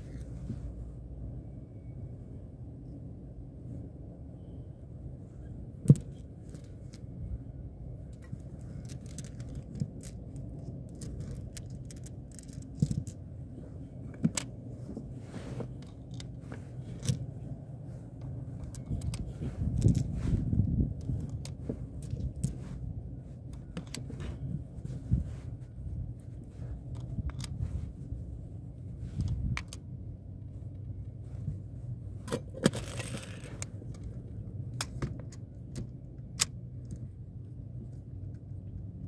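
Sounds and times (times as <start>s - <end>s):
steady low rumble: 0.0s - 39.0s.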